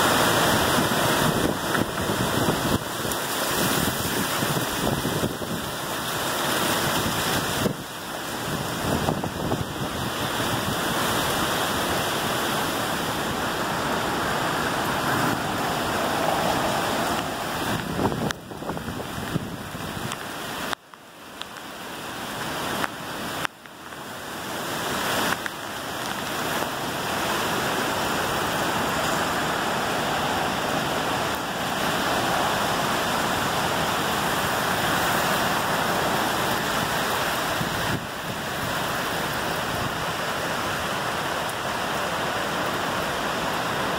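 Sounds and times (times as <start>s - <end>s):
heavy rain: 0.0s - 43.9s
wind: 0.0s - 43.9s.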